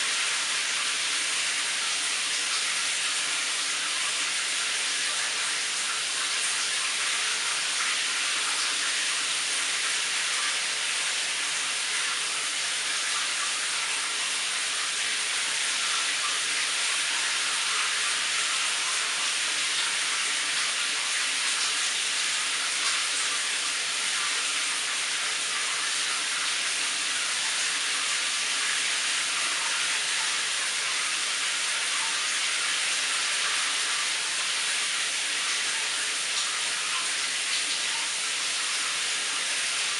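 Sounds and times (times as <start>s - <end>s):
shower water spraying on tiles: 0.0s - 39.9s.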